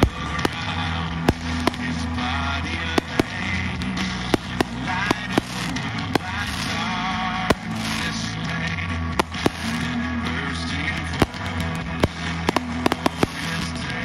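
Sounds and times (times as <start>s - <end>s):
fireworks bangs: 0.0s - 10.3s, 10.9s - 14.0s
music playing: 0.0s - 14.0s.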